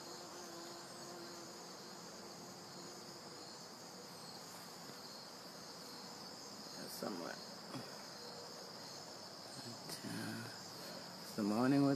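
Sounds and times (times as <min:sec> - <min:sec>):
high-pitched insect trilling: 0:00.0 - 0:11.9.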